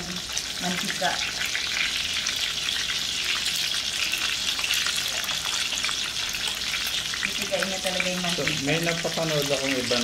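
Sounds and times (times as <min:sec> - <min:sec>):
pork sizzling in fat: 0:00.0 - 0:10.0.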